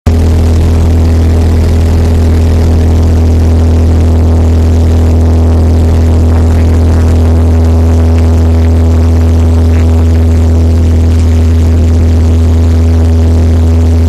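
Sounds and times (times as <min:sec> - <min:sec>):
propeller plane engine drone: 0:00.1 - 0:14.0.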